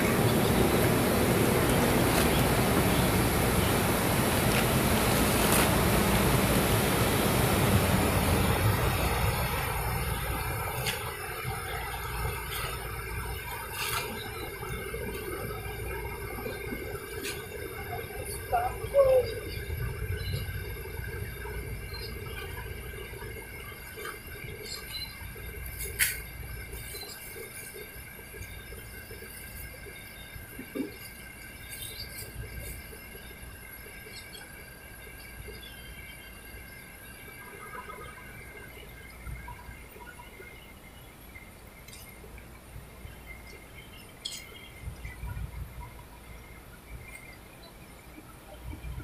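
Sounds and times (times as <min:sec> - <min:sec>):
low outdoor rumble: 0:00.0 - 0:49.0
steady background hum: 0:00.0 - 0:49.0.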